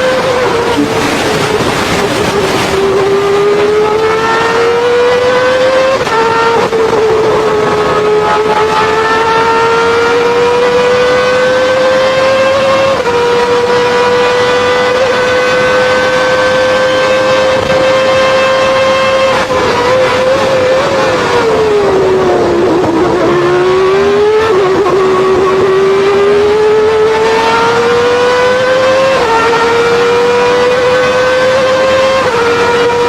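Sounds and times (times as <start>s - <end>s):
racing car engine at high revs: 0.0s - 33.0s.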